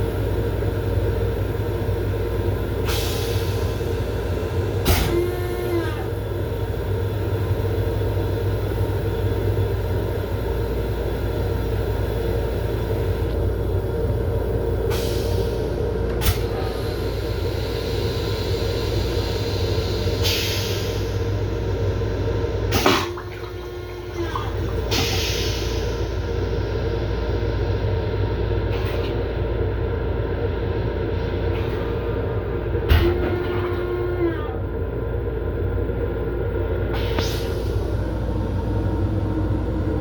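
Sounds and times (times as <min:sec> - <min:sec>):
railcar rumble and hum: 0:00.0 - 0:40.0.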